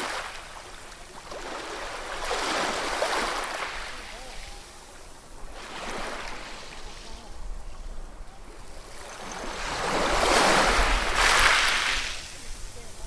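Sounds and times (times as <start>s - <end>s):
ocean waves crashing on shore: 0.0s - 13.0s.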